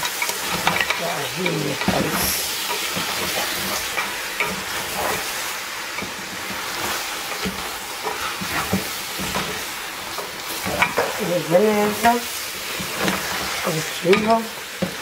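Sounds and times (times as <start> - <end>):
meat and onions sizzling: 0.0 - 15.0.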